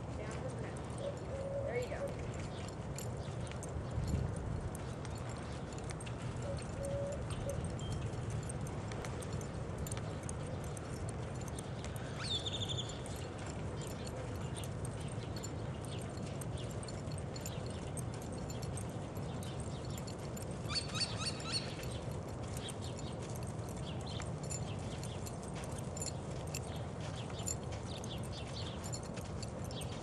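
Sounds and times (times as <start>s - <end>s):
small birds chirping: 0.1s - 30.0s.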